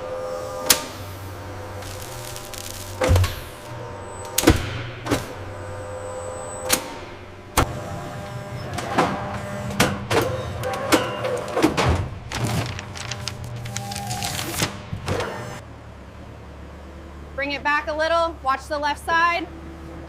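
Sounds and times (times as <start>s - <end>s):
factory machinery humming: 0.0s - 18.8s.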